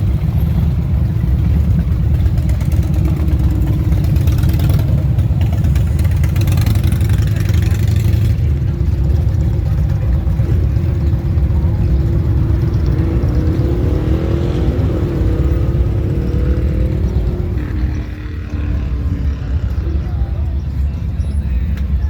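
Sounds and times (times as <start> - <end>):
motorcycle engines rumbling: 0.0 - 22.0
motorcycle revving: 0.0 - 22.0.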